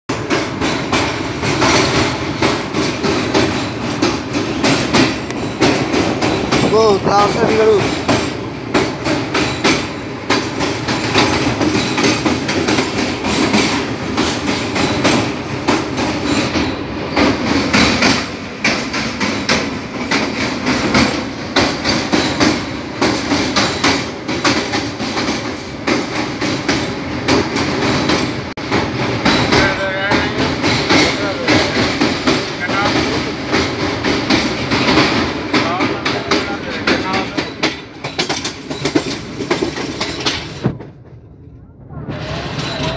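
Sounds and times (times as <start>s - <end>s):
train carriages running noise: 0.1s - 42.9s
train wheels clattering over rails: 0.1s - 42.9s.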